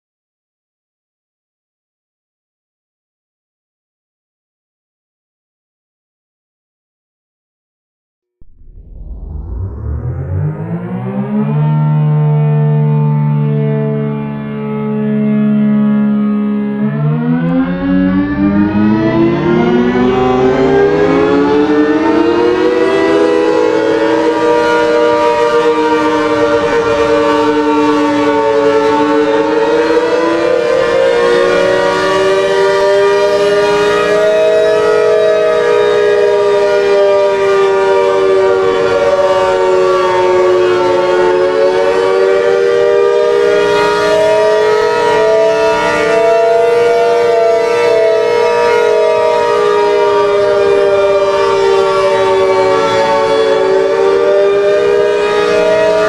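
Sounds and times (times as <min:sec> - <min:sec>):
warning siren wailing: 0:08.4 - 0:56.0.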